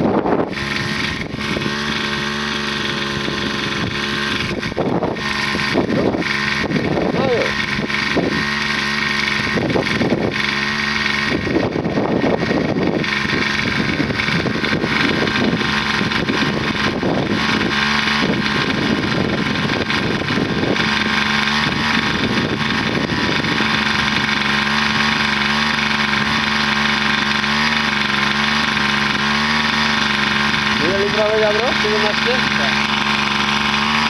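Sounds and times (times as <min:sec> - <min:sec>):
water pump engine running: 0:00.0 - 0:34.0.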